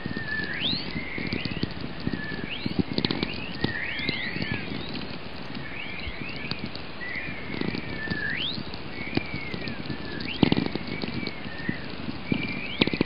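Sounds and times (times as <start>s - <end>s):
crackling clicks: 0.0s - 13.0s
steady radio hiss: 0.0s - 13.0s.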